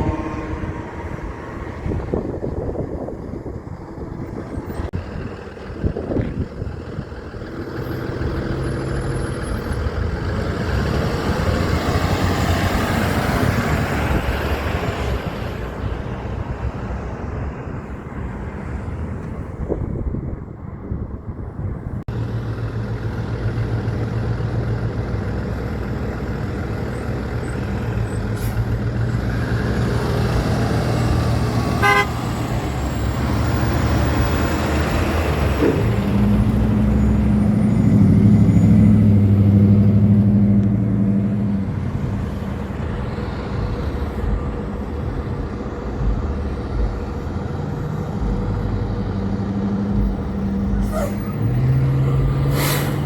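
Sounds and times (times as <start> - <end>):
trucks driving past: 0.0 - 53.0.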